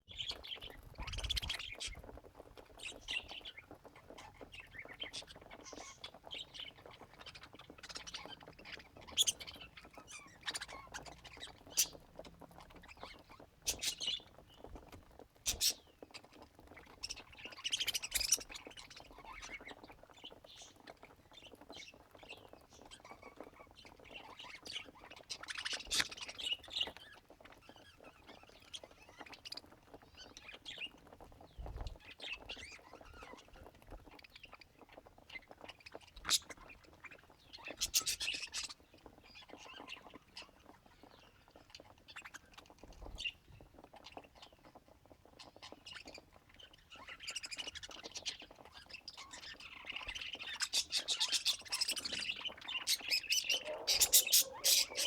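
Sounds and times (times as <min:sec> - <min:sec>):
budgerigars chirping: 0:00.1 - 0:55.0.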